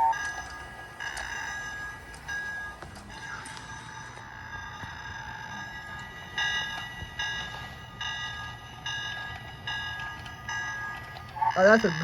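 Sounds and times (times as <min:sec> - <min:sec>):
toy train humming: 0:00.0 - 0:12.0.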